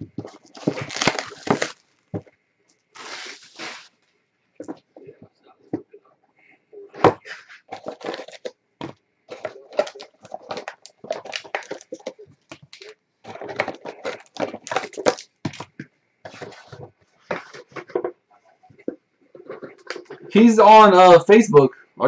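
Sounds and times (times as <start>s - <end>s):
plastic wrap and cardboard crinkling: 0.0s - 2.3s, 2.9s - 5.2s, 7.0s - 20.5s.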